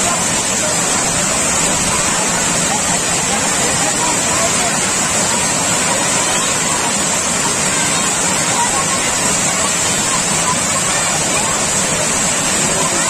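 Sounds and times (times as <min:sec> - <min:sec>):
water pouring over a dam: 0:00.0 - 0:13.0.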